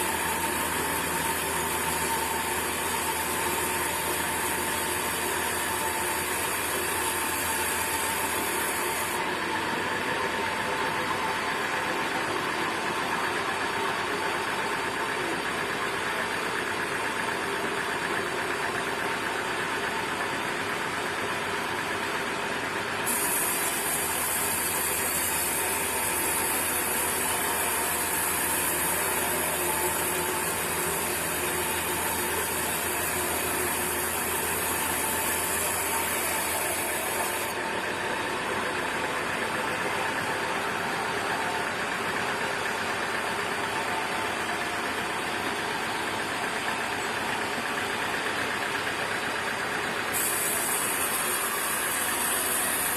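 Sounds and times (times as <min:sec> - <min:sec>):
machine hissing and humming: 0:00.0 - 0:52.9
sawmill machinery running: 0:00.0 - 0:52.9.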